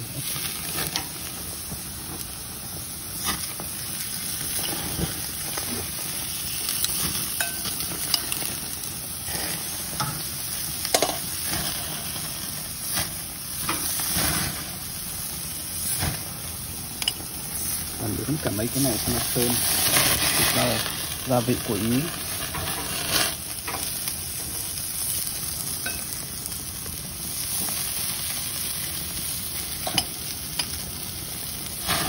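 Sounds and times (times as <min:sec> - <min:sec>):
food sizzling on a grill: 0:00.0 - 0:32.0.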